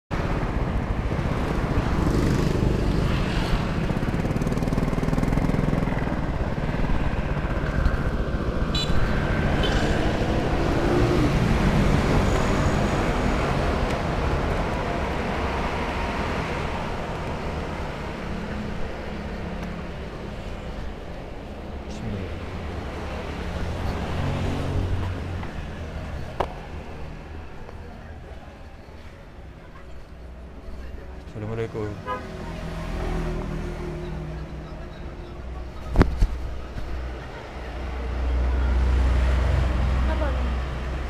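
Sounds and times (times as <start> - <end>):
road and traffic noise: 0.1 - 41.0.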